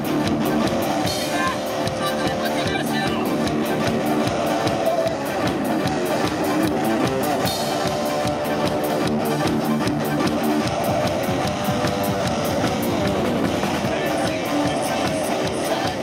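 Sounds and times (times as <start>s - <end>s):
electric guitar: 0.0s - 16.0s
steady drum beat: 0.0s - 16.0s.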